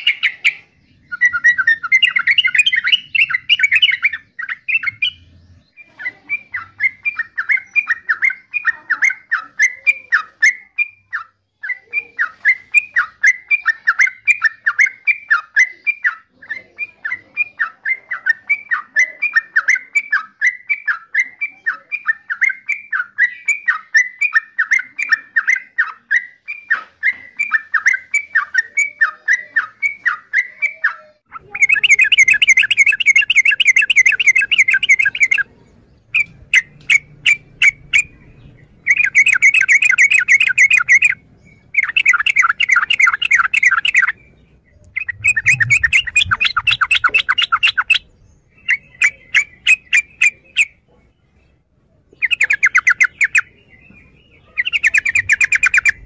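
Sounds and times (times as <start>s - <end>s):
bird rapid chattering song: 0.0s - 56.0s.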